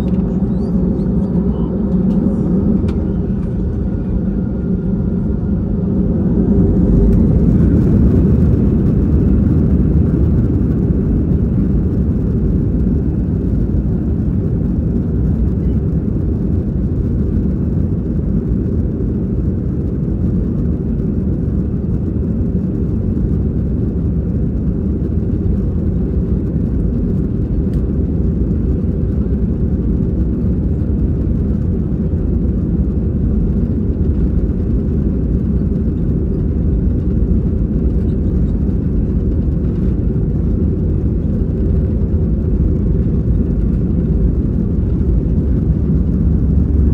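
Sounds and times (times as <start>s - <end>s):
jet engines at takeoff thrust: 0.0s - 46.9s.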